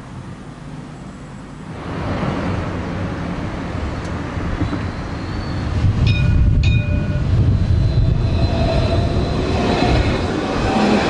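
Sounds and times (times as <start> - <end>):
tram rumbling: 0.0 - 11.0.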